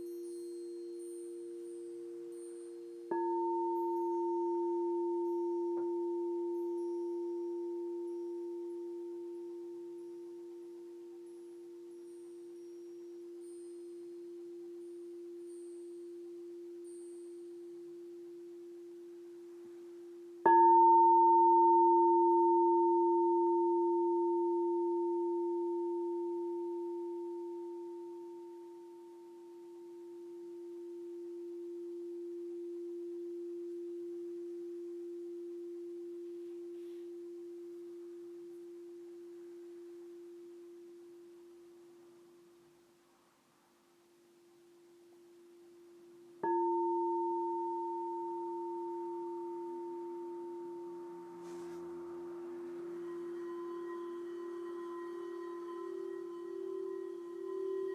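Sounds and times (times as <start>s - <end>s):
crystal singing bowl ringing: 0.0s - 42.7s, 44.5s - 57.9s.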